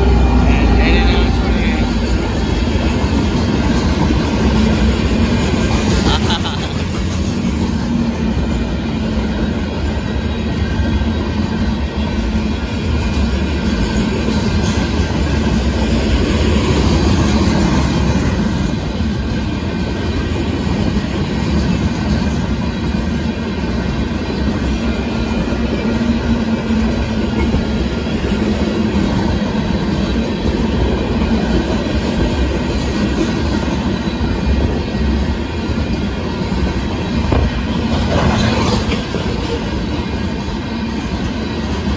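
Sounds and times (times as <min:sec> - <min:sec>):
train wheels on rails: 0:00.0 - 0:41.9.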